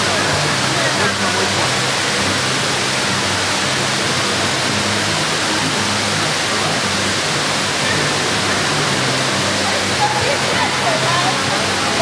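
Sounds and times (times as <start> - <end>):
water cascading into pool: 0.0 - 12.0.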